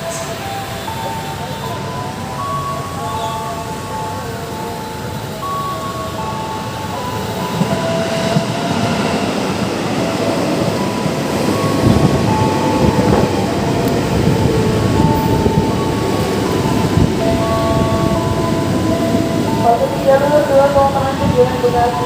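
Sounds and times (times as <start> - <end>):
electric train rumble and clatter: 0.0 - 22.0.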